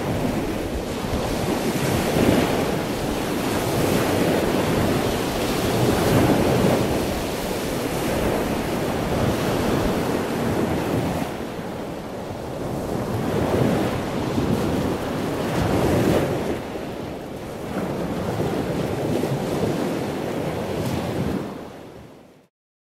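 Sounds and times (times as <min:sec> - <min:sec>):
ocean waves breaking: 0:00.0 - 0:22.3
wind noise on microphone: 0:00.0 - 0:22.4.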